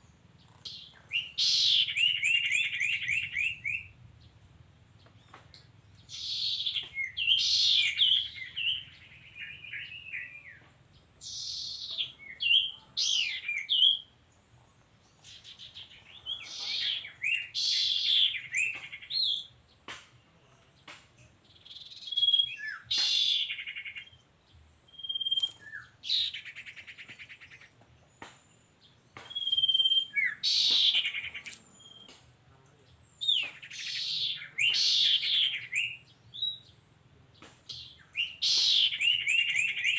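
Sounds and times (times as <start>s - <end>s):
bird song warbled phrases: 0.0s - 39.9s.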